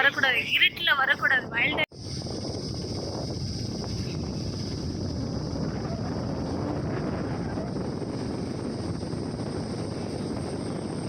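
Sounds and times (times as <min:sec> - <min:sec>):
high-pitched hum: 0:00.0 - 0:11.0
wind buffeting microphone: 0:00.0 - 0:11.0
engine and road rumble: 0:01.5 - 0:11.0.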